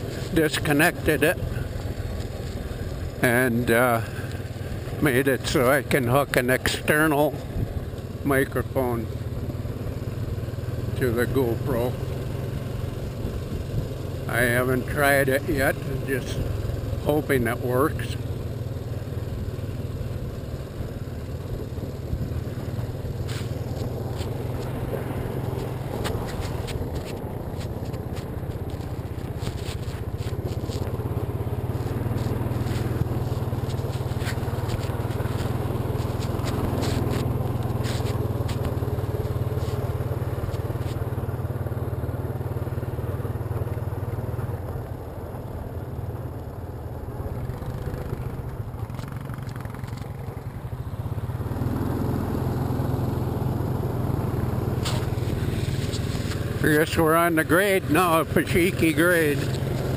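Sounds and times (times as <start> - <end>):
atv engine running: 0.0 - 59.9
gravel crunching under tyres: 0.0 - 59.9.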